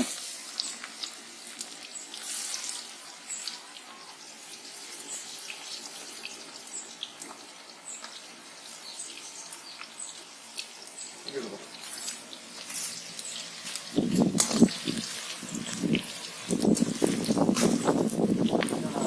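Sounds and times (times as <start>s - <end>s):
oil sizzling with pops: 0.0s - 19.0s.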